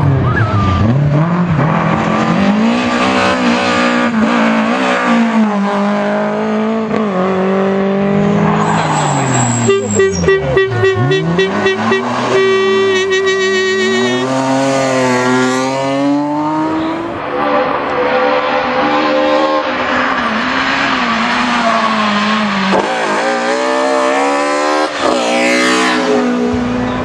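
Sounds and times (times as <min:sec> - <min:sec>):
rally car engine revving: 0:00.0 - 0:27.0.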